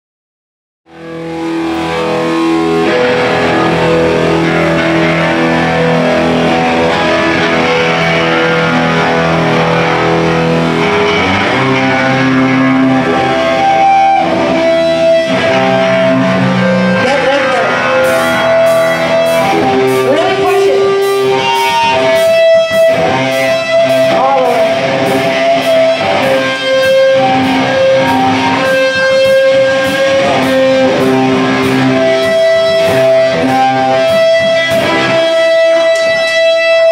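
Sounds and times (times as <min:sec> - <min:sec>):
electric guitar: 0:00.9 - 0:36.9
live rock band playing: 0:00.9 - 0:36.9.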